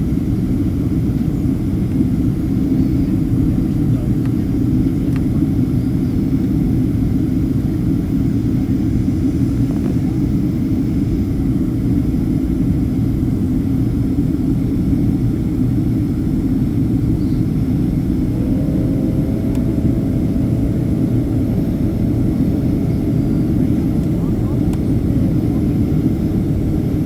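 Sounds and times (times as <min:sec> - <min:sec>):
airliner cabin roar: 0:00.0 - 0:27.0
faint whine: 0:00.4 - 0:27.0.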